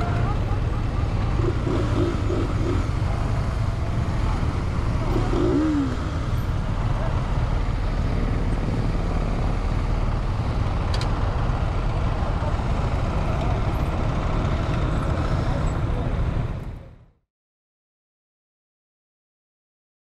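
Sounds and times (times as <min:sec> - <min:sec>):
motorcycle engine rumble: 0:00.0 - 0:17.0.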